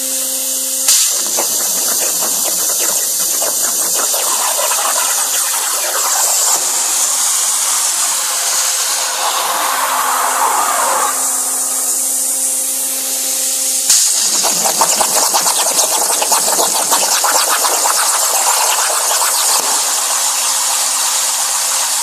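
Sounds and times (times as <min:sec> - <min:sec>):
plasma cutter arc hissing: 0:00.8 - 0:22.0.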